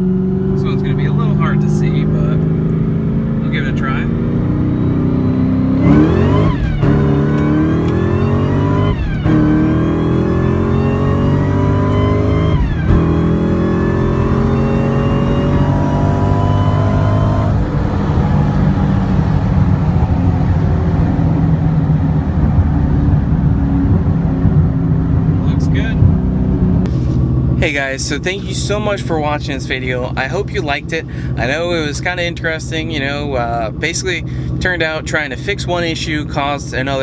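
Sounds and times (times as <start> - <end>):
car engine accelerating and upshifting: 0.0 - 37.0.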